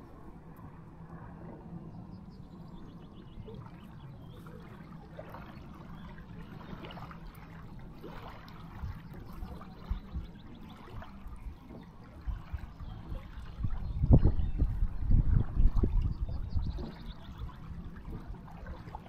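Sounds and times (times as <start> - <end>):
river waves lapping: 0.0 - 19.0
steady low rumble: 0.0 - 19.0.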